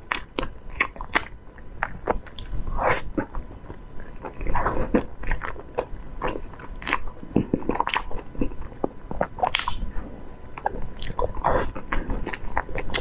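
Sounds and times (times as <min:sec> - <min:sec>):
person chewing soft cake: 0:00.0 - 0:13.0.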